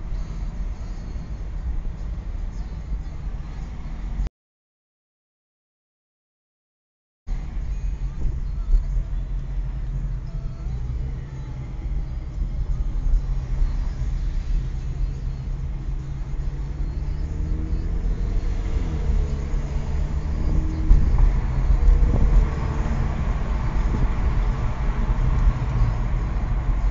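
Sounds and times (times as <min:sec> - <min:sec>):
car engine rumble: 0:00.0 - 0:04.3, 0:07.3 - 0:26.9.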